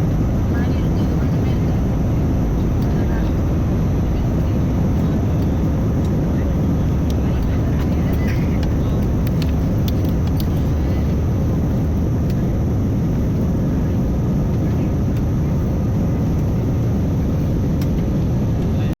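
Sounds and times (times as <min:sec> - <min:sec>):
jet engines roaring: 0:00.0 - 0:18.9.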